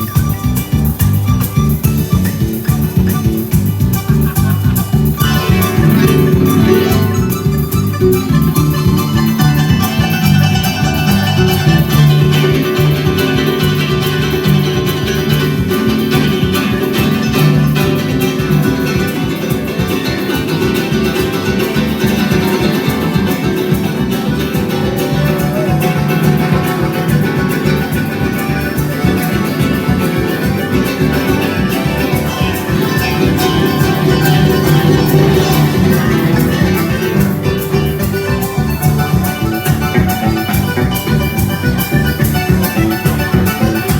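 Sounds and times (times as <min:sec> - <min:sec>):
plucked string music led by guitar: 0:00.0 - 0:43.9.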